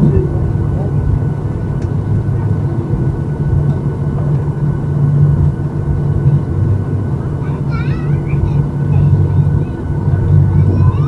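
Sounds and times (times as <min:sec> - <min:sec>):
jet engines idling in cabin: 0:00.0 - 0:11.0.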